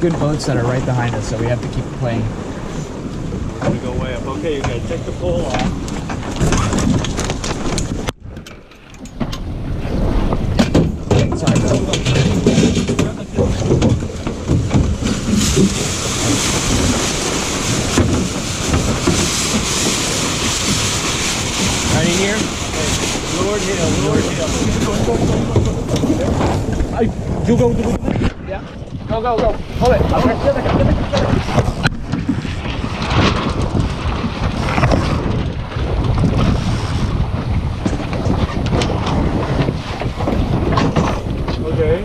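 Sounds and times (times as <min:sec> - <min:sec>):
water rushing along a hull: 0:00.0 - 0:42.0
wind buffeting microphone: 0:00.0 - 0:42.0.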